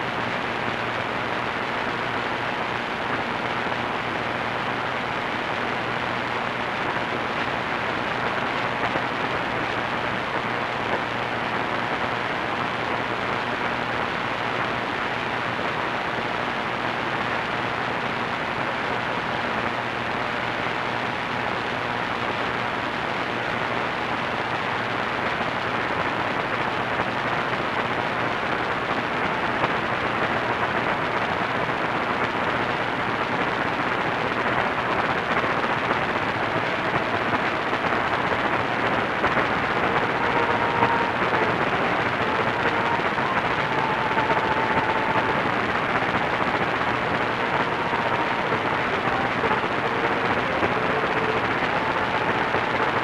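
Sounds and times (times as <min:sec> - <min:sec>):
radio static hiss: 0:00.0 - 0:53.0.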